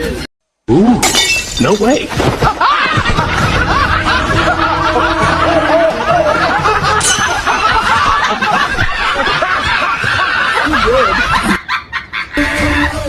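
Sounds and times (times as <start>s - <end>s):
crowd laughing and snickering: 2.3s - 13.0s.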